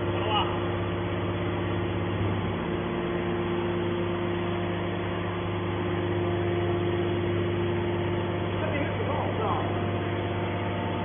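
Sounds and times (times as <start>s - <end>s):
hydraulic baler humming: 0.0s - 11.0s.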